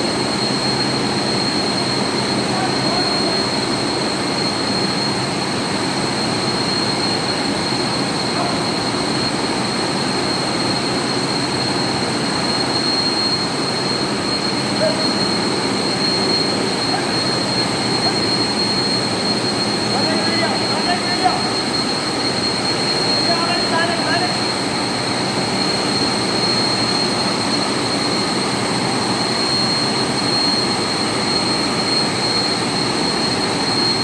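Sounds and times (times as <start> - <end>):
compressors running with whine: 0.0 - 34.0.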